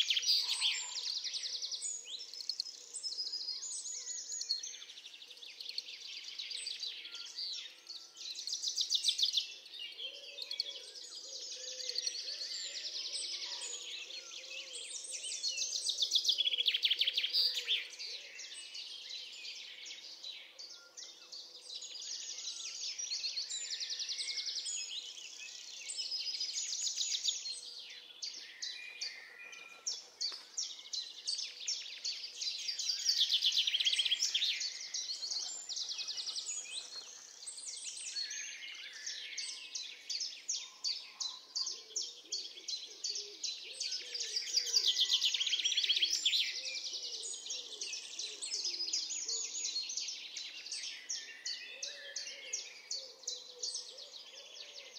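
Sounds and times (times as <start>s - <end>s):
birds chirping and trilling: 0.0s - 54.9s.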